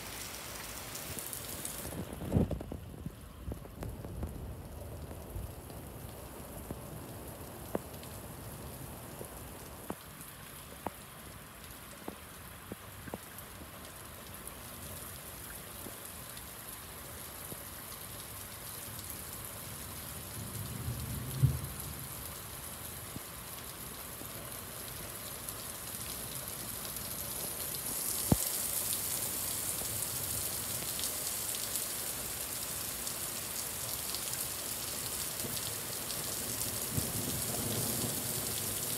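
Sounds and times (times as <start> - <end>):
heavy rain hissing on pavement: 0.0 - 38.9.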